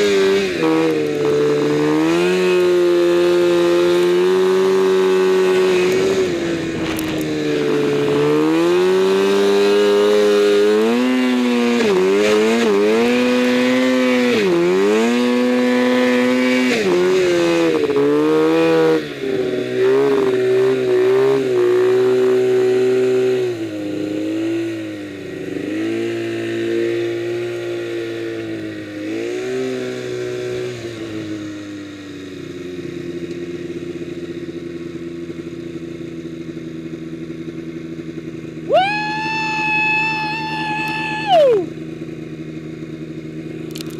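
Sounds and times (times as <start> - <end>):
snowmobile engine revving: 0.0 - 31.5, 38.0 - 43.9.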